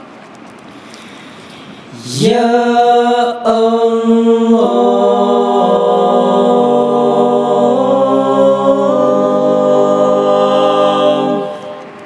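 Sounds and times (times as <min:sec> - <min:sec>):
unaccompanied vocal harmony: 0:01.9 - 0:12.0.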